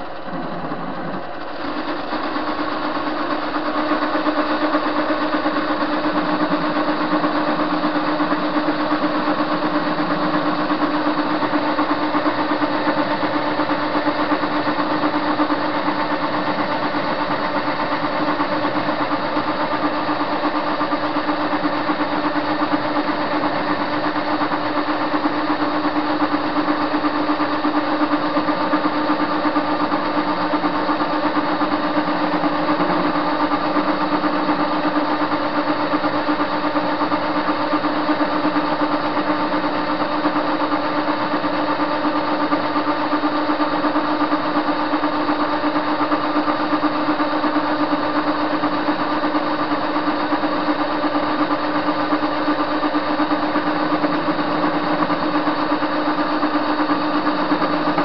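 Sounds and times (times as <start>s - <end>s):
lathe motor humming: 0.0s - 58.0s.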